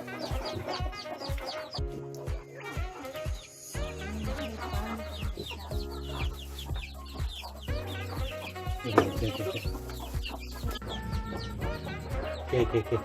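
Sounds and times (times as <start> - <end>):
background music with beat: 0.0 - 13.0
chickens clucking: 0.0 - 13.0.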